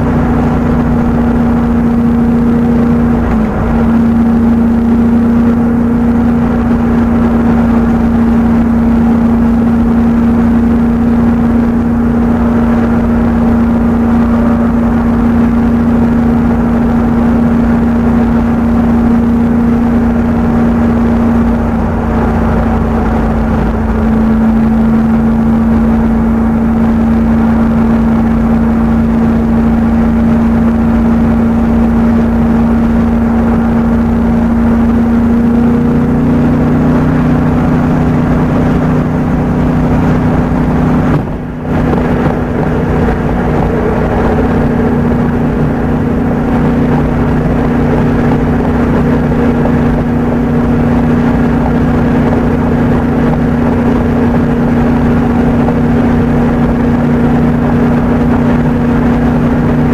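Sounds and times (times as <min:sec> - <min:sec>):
car engine and tyre noise: 0:00.0 - 0:59.9
low tone: 0:00.0 - 0:59.9.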